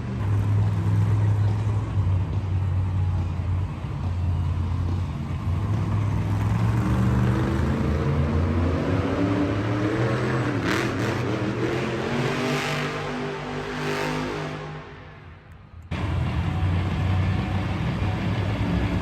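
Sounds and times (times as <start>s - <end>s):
truck engine revving: 0.0s - 15.2s.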